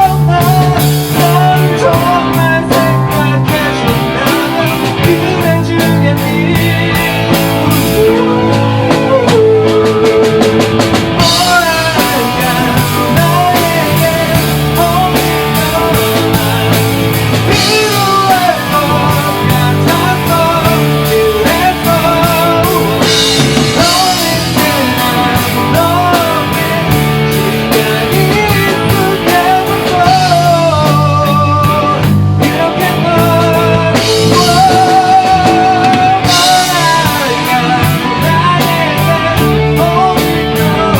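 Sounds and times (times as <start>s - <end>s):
bass guitar groove: 0.0s - 40.9s
drum kit: 0.0s - 40.9s
lead guitar with bent notes: 0.0s - 40.9s.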